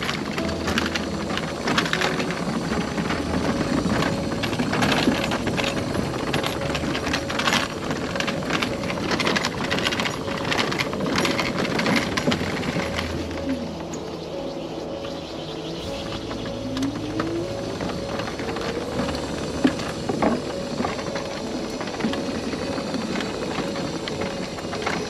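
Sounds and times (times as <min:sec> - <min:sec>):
wheels rattling over trail: 0:00.0 - 0:25.0.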